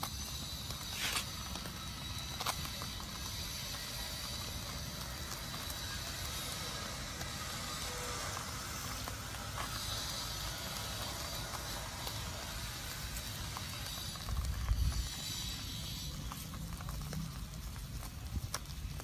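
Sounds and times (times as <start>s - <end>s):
wood fire hissing and crackling: 0.0s - 19.0s.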